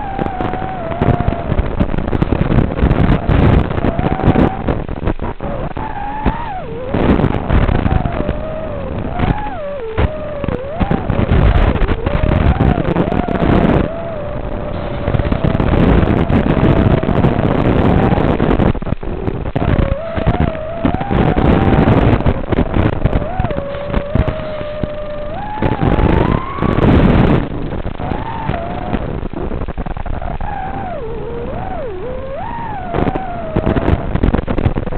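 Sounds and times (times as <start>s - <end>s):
quadcopter motors whining: 0.0s - 1.5s, 2.3s - 4.7s, 5.5s - 18.3s, 19.0s - 29.0s, 30.6s - 34.0s.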